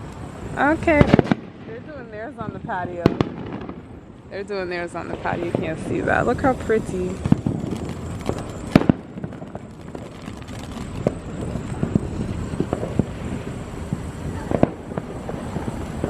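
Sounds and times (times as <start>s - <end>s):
firework bangs: 0.0s - 16.0s
small firework pops: 1.0s - 1.8s, 2.4s - 3.9s, 5.0s - 16.0s.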